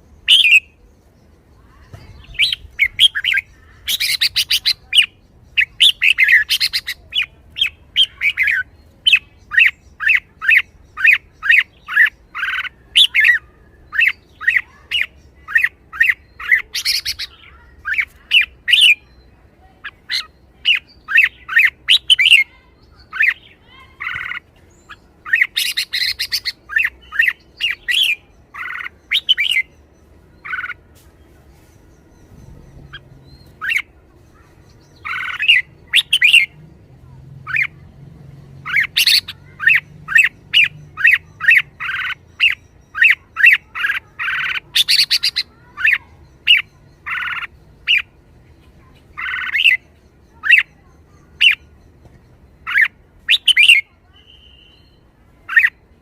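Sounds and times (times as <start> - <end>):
bird singing and chattering: 0.0 - 56.0.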